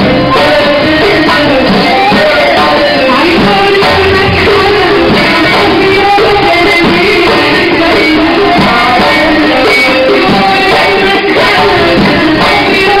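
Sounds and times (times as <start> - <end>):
frame drums and tambourines: 0.0 - 13.0
women singing in unison: 0.0 - 13.0.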